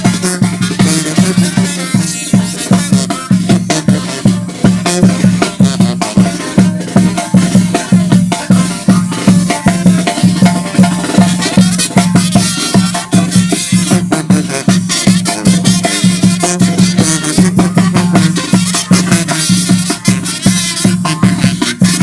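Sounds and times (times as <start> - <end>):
brass band music: 0.0 - 22.0
drum hits: 0.0 - 22.0
tuba bass notes: 0.0 - 22.0.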